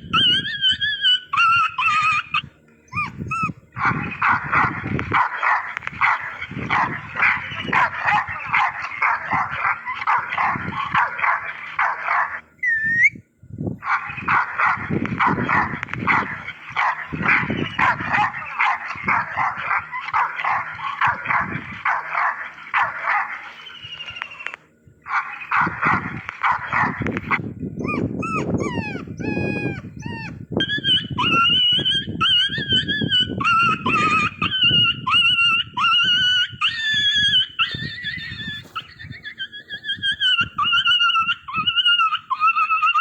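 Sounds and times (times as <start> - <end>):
dog whining and howling: 0.0 - 13.2, 13.8 - 43.0
dog barking: 0.1 - 12.8, 13.8 - 43.0.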